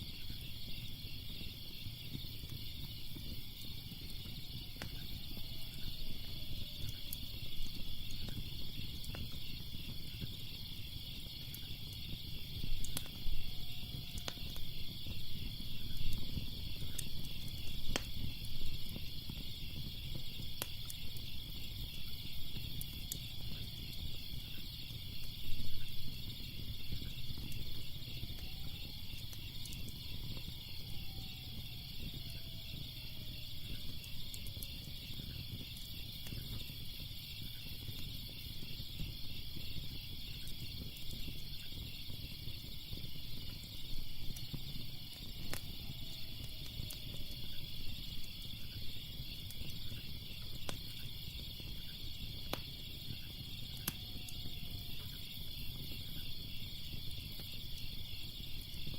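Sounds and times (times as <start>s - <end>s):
crickets chirping: 0.0s - 58.9s
log fire crackling and popping: 0.0s - 58.9s.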